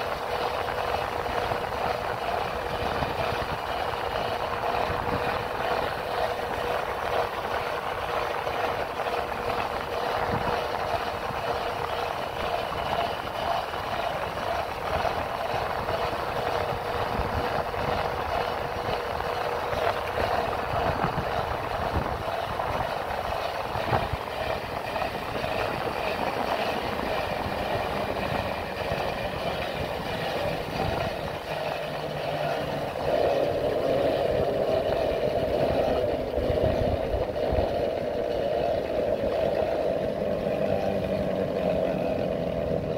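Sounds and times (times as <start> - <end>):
motorcycle engine running: 0.0 - 42.9
wind over microphone: 0.0 - 42.9.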